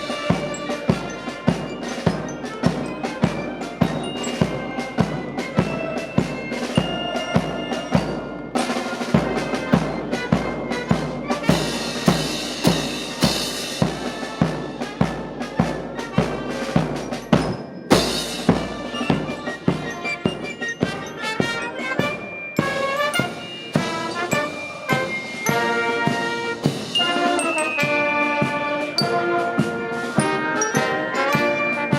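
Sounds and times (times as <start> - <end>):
bass and snare drums: 0.0 - 31.9
marching band playing: 0.0 - 31.9.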